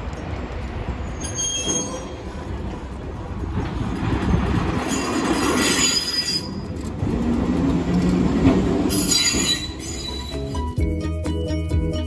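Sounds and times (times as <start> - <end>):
tram wheels squealing on rails: 0.0 - 10.8
tram rumbling past: 0.0 - 12.0.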